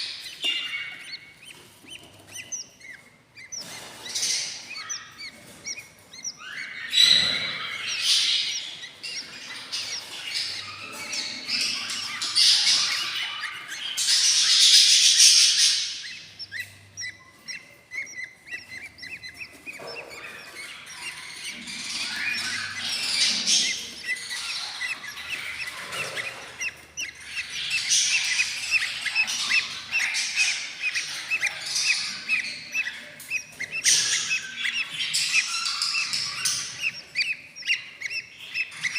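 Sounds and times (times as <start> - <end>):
chicks chirping: 0.0 - 38.9
chicks rasping: 0.0 - 38.9.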